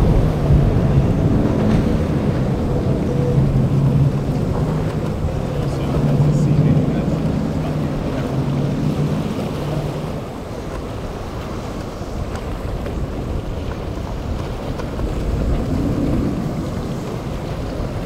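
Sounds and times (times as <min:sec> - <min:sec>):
boat engine drone: 0:00.0 - 0:18.0
outboard motors passing: 0:00.0 - 0:18.0
waves breaking: 0:00.0 - 0:18.0
wind buffeting microphone: 0:00.0 - 0:18.0.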